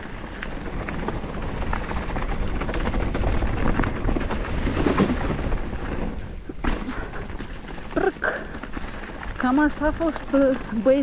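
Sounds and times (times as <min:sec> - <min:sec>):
bike clicks and rattles: 0:00.0 - 0:11.0
tyres running over gravel: 0:00.0 - 0:11.0
wind buffeting microphone: 0:00.0 - 0:11.0.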